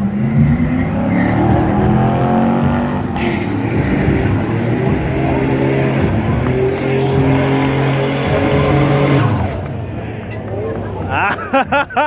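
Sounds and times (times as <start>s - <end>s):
cars accelerating hard: 0.0s - 12.0s.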